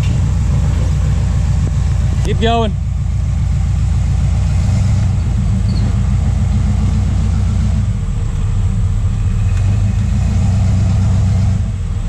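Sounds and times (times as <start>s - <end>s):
engine rumbling at low revs: 0.0s - 12.0s.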